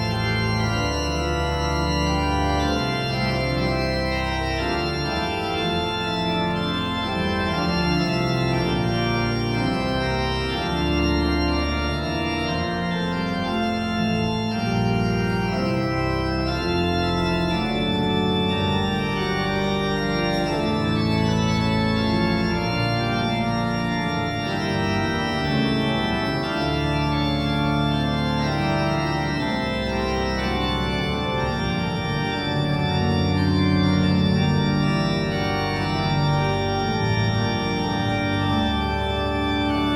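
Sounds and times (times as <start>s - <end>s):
organ playing sustained chords: 0.0s - 39.9s.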